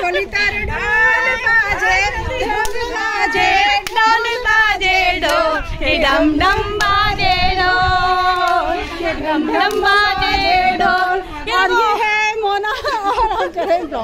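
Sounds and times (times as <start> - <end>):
wind rumble on microphone: 0.0 - 13.4
women singing unaccompanied: 0.0 - 14.0.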